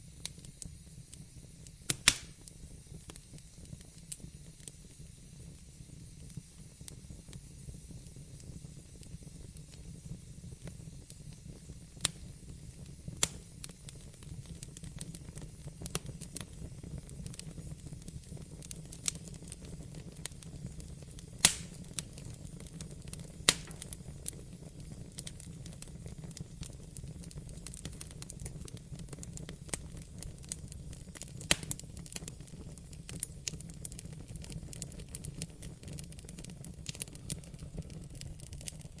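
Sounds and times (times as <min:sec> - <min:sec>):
low rumble of flames: 0:00.0 - 0:39.0
wood fire crackling: 0:00.0 - 0:39.0.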